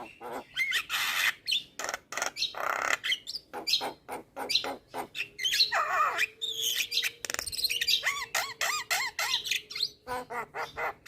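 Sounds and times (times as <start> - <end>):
bird singing varied calls: 0.0 - 11.0.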